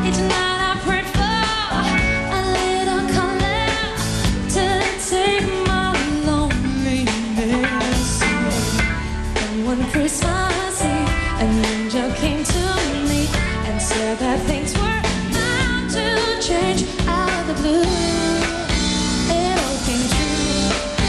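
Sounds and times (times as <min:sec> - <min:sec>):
live band playing pop song: 0:00.0 - 0:21.0
woman singing: 0:00.0 - 0:21.0.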